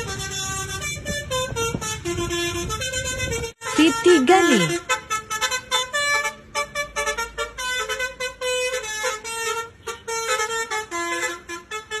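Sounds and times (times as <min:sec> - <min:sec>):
bus horn playing a melody: 0:00.0 - 0:12.0.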